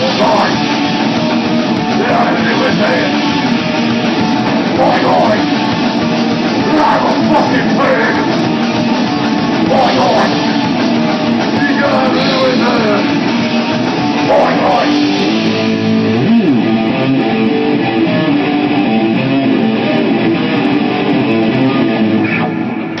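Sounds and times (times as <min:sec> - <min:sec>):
guitar-led rock band: 0:00.0 - 0:23.0.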